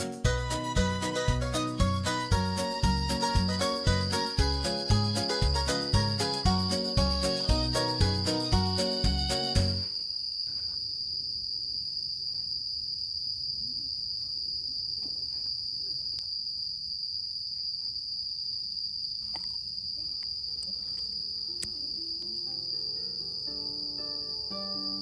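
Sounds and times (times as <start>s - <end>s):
insects chirring: 1.1s - 25.0s.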